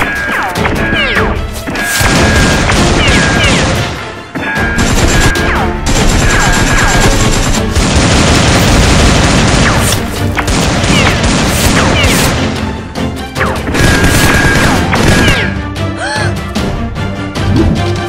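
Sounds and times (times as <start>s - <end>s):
gunfire: 0.0s - 12.6s, 13.4s - 15.6s
action film music: 0.0s - 18.0s.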